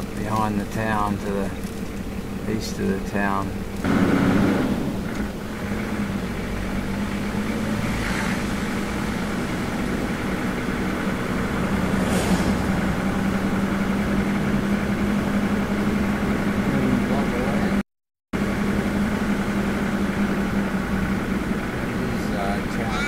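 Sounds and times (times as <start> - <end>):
vehicle engine drone from inside cabin: 0.0 - 17.8, 18.4 - 23.0.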